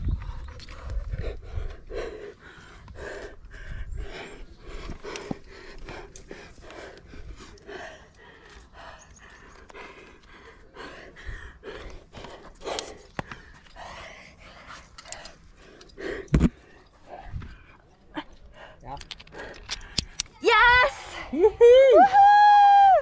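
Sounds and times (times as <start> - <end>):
person panting hard: 0.0 - 20.4.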